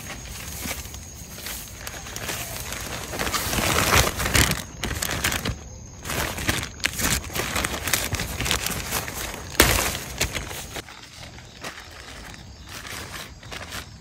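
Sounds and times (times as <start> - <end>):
paper bags crinkling: 0.0 - 14.0.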